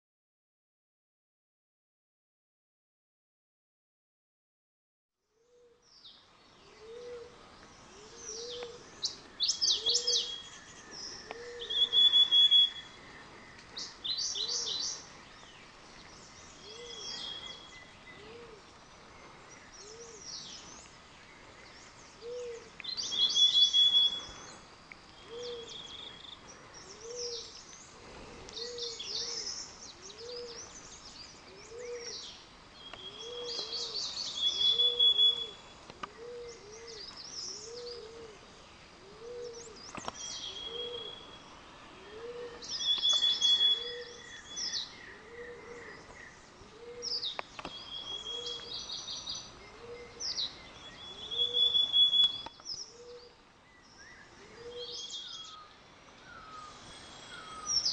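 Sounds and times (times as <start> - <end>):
birds chirping songs and trills: 5.2 - 57.9.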